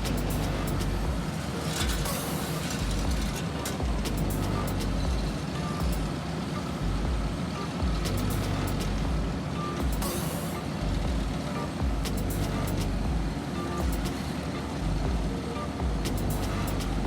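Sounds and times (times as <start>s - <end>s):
reversing alarm beeps: 0.0s - 16.8s
heavy diesel machinery running: 0.0s - 17.0s.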